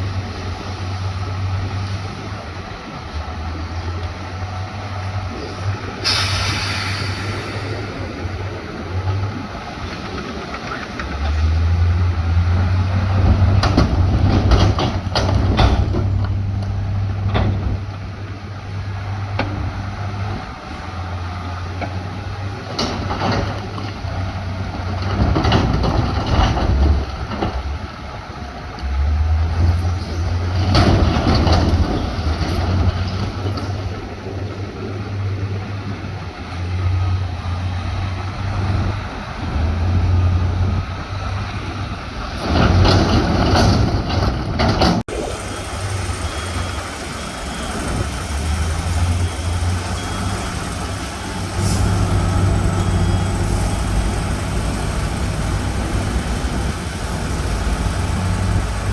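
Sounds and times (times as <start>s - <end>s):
diesel engine droning: 0.0s - 58.9s
machinery clanking and rattling: 4.4s - 34.9s, 38.0s - 58.9s.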